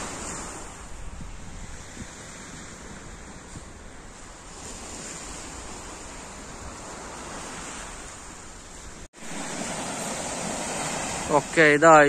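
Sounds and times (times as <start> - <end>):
waves washing onto pebbles: 0.0 - 0.9, 1.8 - 12.0.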